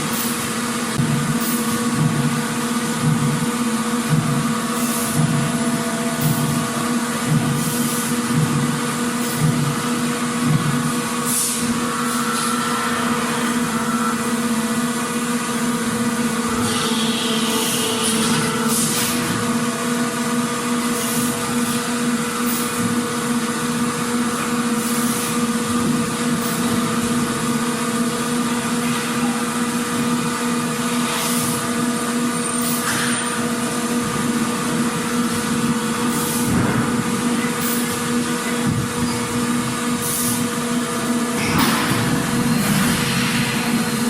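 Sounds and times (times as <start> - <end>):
factory machinery humming: 0.0 - 44.0.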